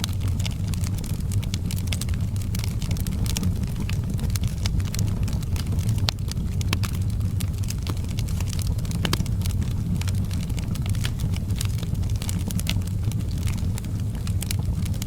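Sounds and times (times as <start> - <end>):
wood fire crackling in a fireplace: 0.0 - 15.0.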